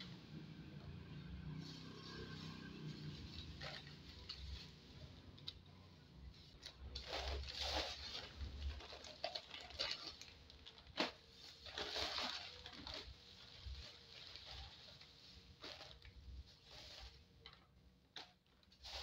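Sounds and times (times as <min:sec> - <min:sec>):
plastic bag rustling and crinkling: 0:01.6 - 0:19.0.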